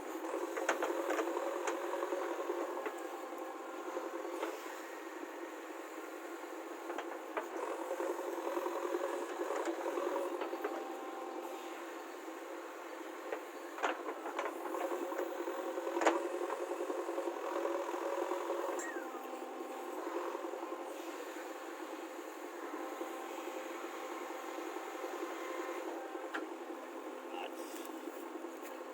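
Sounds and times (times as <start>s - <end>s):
diesel engine running: 0.0s - 28.6s.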